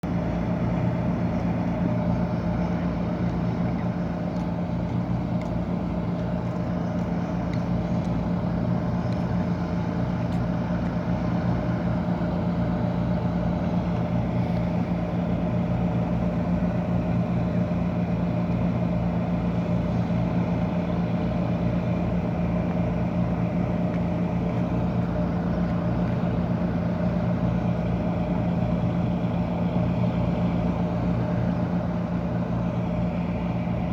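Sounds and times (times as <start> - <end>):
ship engine droning: 0.0 - 33.9.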